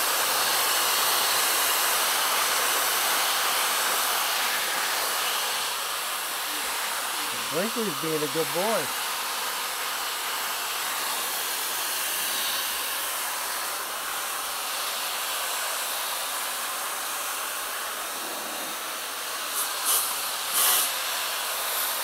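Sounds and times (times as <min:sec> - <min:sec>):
pet dryer airflow hiss: 0:00.0 - 0:22.0.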